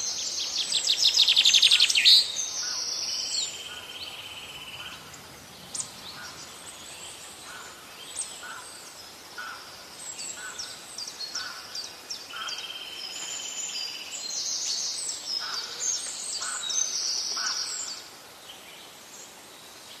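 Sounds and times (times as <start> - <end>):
small birds chirping and trilling: 0.0 - 20.0.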